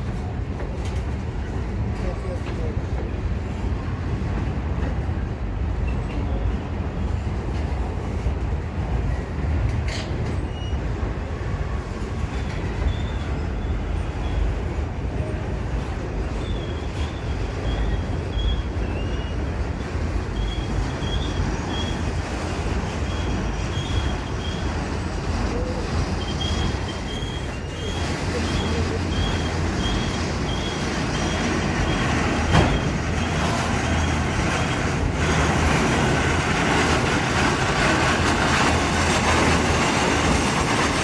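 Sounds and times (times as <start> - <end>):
freight train rumbling: 0.0 - 41.0.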